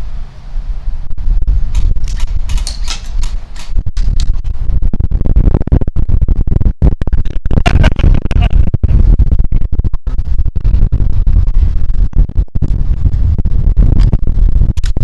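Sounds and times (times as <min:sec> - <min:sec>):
microphone rubbing and buffeting: 0:01.2 - 0:15.0.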